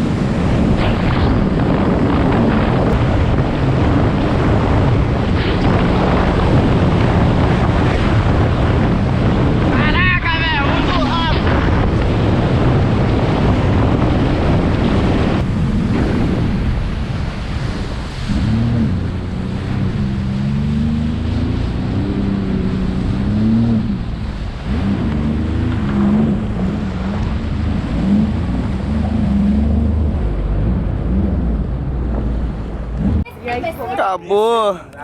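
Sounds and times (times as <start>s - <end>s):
speedboat engine: 0.0s - 35.0s
water rushing against hull: 0.0s - 35.0s
wind buffeting microphone: 0.0s - 35.0s.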